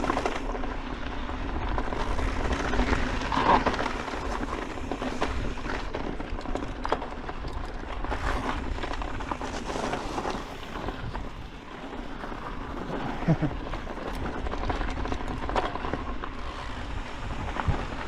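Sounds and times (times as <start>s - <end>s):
bike clicks and rattles: 0.0s - 18.0s
wind rumbling on microphone: 0.0s - 18.0s.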